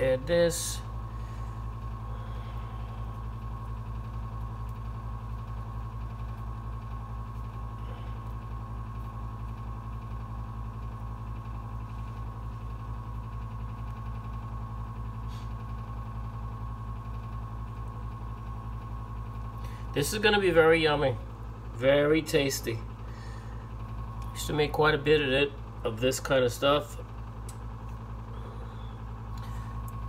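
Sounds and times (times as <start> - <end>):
low electrical hum: 0.0 - 30.0
thin whine: 0.0 - 30.0.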